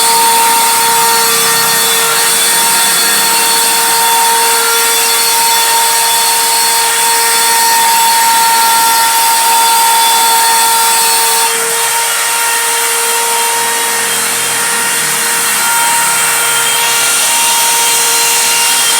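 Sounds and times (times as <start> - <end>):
hissing cutting noise: 0.0 - 18.9
router spindle whining: 0.0 - 18.9.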